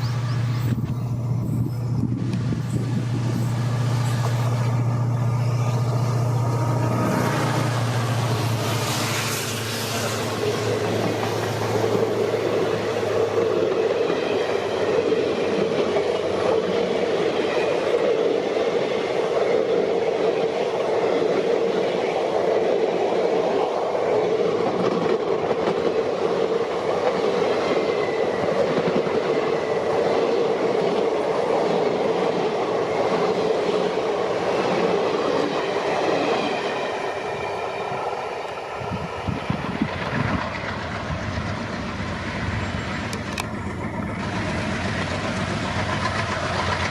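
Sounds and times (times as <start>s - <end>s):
train wheels clattering over rails: 5.8s - 37.3s, 38.4s - 46.9s.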